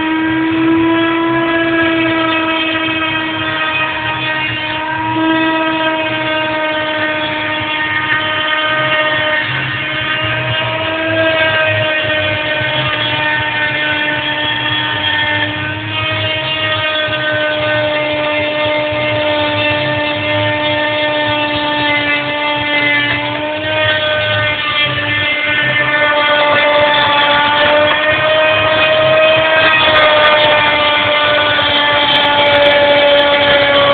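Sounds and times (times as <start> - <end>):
milling machine spindle whine: 0.0 - 33.9.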